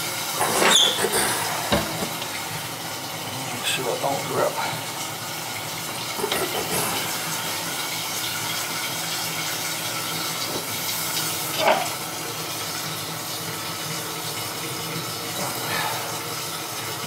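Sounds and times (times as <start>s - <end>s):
water hissing into toilet tank: 0.0s - 17.0s.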